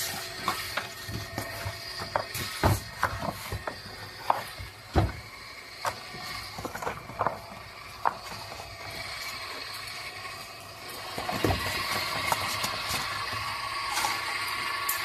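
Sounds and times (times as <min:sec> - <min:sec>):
welding machine running: 0:00.0 - 0:15.0.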